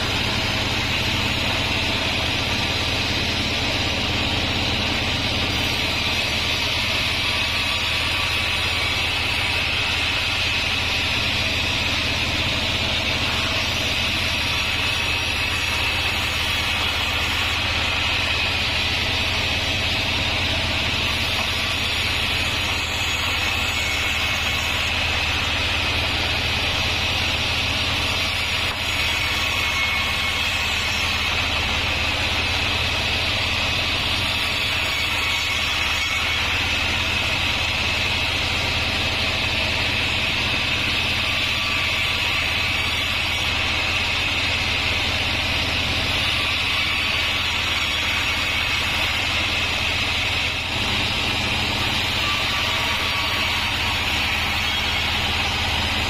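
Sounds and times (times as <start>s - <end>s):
band sawmill running: 0.0s - 56.0s
high steady whine: 0.0s - 56.0s.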